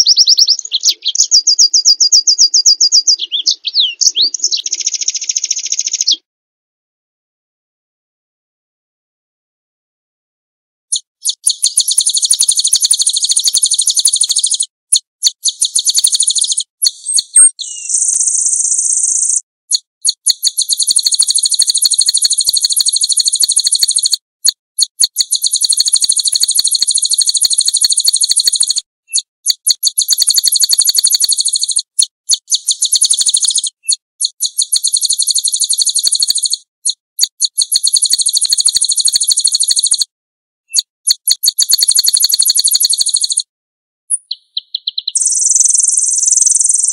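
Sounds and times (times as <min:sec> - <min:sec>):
songbirds singing high trills: 0:00.0 - 0:06.2, 0:10.9 - 0:24.2, 0:25.0 - 0:40.0, 0:40.7 - 0:43.4, 0:44.1 - 0:46.9.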